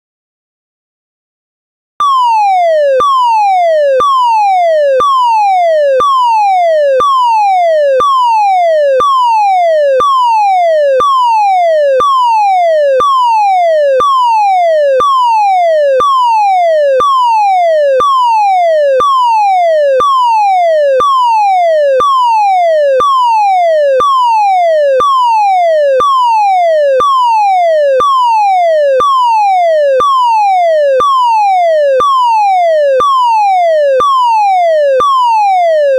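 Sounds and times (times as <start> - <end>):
falling electronic alarm tone: 2.0 - 35.9.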